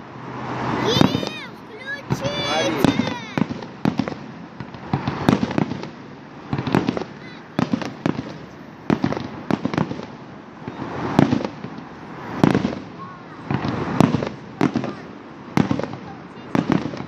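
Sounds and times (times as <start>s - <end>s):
firework shells bursting: 0.8s - 17.0s.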